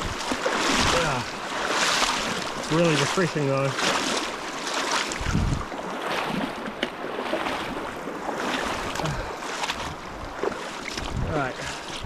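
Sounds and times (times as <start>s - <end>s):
river running over stones: 0.0s - 12.0s
sharp splashes in water: 0.0s - 12.0s.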